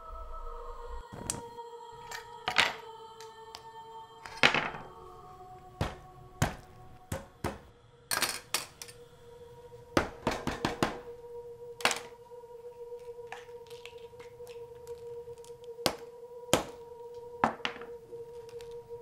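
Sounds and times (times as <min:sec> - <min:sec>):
music drone: 0:00.0 - 0:19.0.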